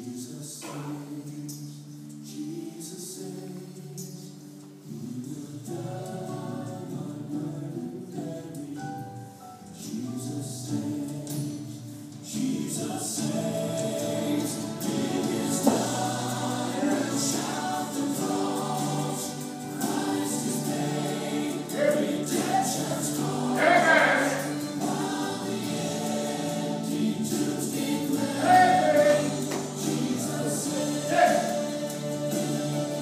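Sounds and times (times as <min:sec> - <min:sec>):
gospel choir singing: 0:00.0 - 0:33.0.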